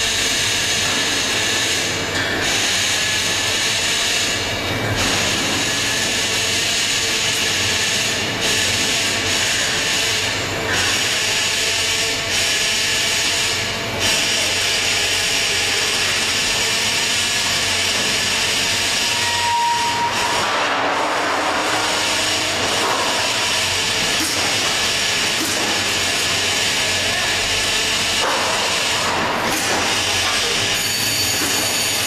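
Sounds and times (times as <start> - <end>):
hissing machine noise: 0.0 - 32.0.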